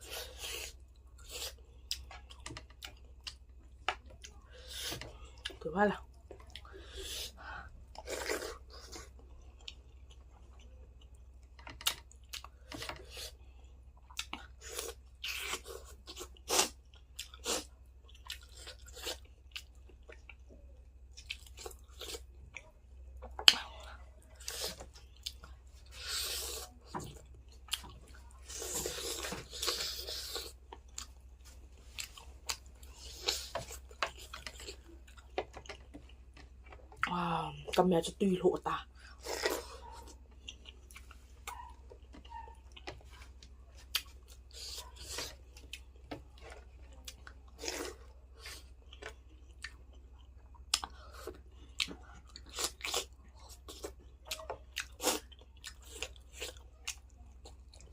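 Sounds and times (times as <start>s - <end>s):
person chewing and crunching food: 0.0s - 57.9s.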